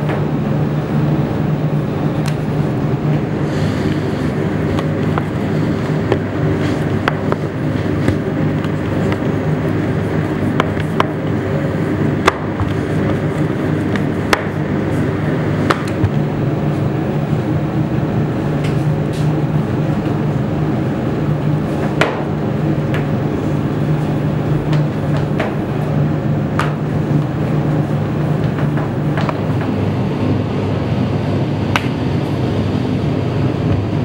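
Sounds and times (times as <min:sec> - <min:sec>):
machine humming: 0:00.0 - 0:34.0.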